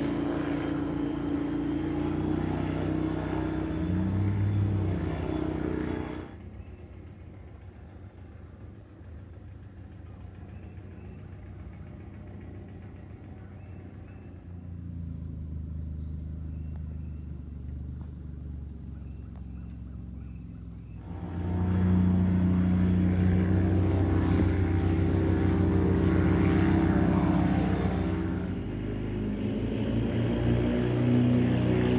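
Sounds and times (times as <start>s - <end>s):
airboat engine and propeller drone: 0.0s - 31.9s.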